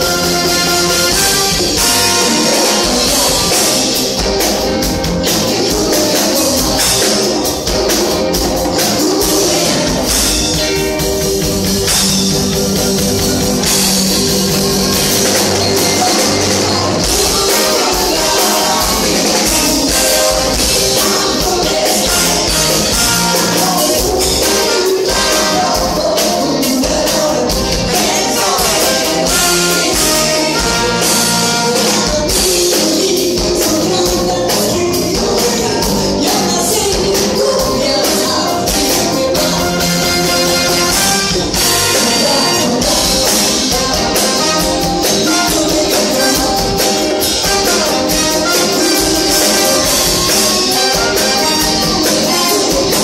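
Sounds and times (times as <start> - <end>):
saxophone: 0.0 - 12.0, 14.5 - 26.2, 27.7 - 32.6, 38.4 - 53.0
drums: 0.0 - 53.0
electric guitars: 0.0 - 53.0
keyboard: 0.0 - 53.0
people singing into microphones: 0.0 - 53.0.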